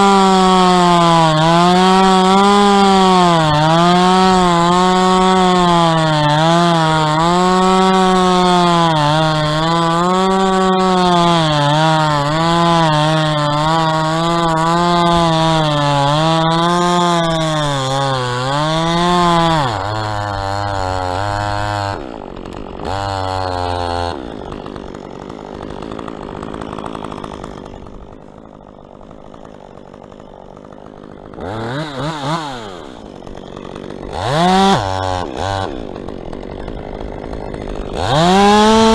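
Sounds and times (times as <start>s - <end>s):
chainsaw cutting wood: 0.0s - 38.9s
chainsaw idling: 0.0s - 38.9s
chainsaw revving: 0.0s - 38.9s.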